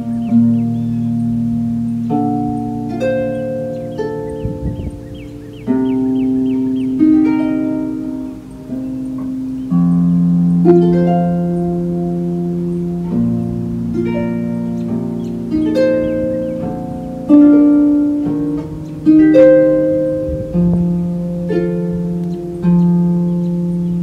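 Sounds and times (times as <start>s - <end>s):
harp playing gentle music: 0.0s - 24.0s.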